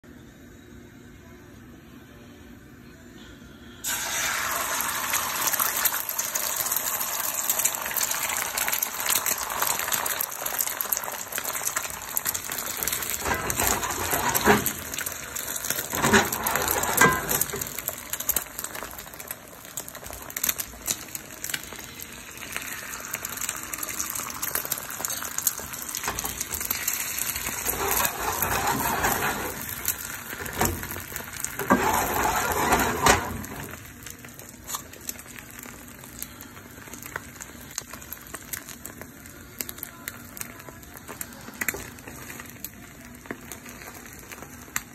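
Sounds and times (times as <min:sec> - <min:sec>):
eggs sizzling in a pan: 0:03.8 - 0:44.9.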